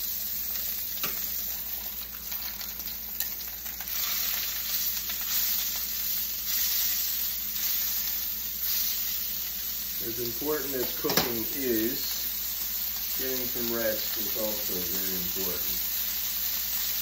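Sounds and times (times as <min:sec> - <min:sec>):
steak sizzling in a pan: 0:00.0 - 0:17.0.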